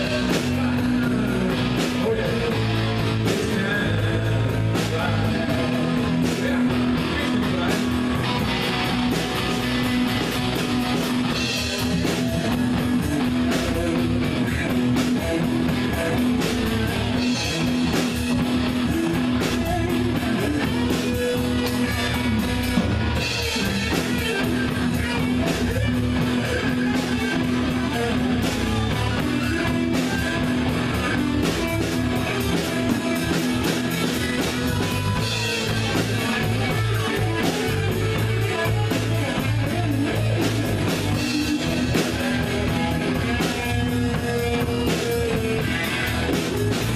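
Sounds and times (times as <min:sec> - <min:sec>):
drum kit steady beat: 0:00.0 - 0:46.9
electric guitars: 0:00.0 - 0:46.9
live rock band playing: 0:00.0 - 0:46.9.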